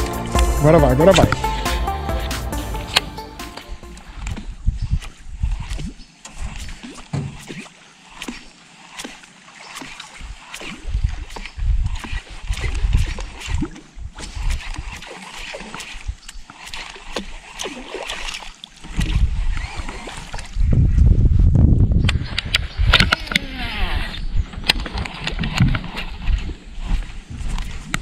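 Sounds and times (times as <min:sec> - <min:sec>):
water splashing around boat: 0:00.0 - 0:20.8, 0:23.0 - 0:28.0.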